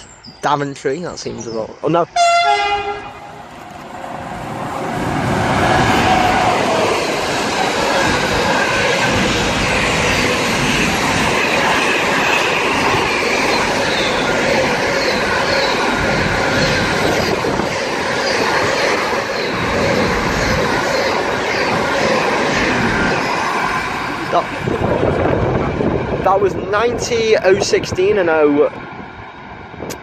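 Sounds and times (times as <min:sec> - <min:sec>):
freight train passing: 0:02.2 - 0:30.0.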